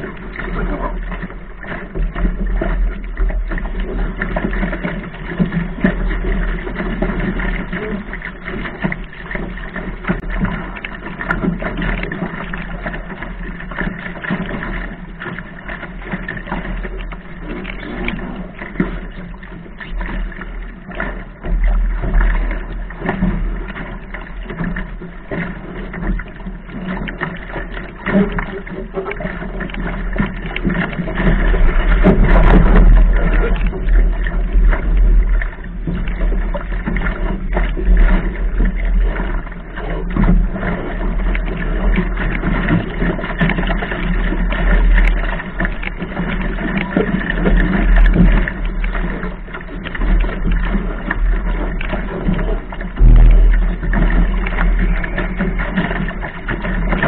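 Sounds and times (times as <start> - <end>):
hull slapping and splashing water: 0.0 - 57.0
wind rumbling on microphone: 0.0 - 57.0.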